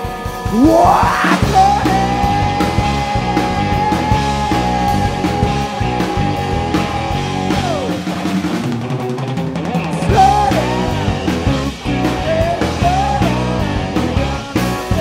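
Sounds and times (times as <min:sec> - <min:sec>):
blues rock band playing: 0:00.0 - 0:15.0.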